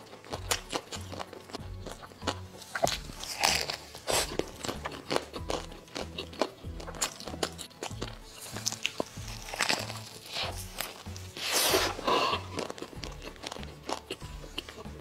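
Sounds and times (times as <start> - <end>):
crunchy chewing: 0.0 - 15.0
soft background music: 0.0 - 15.0.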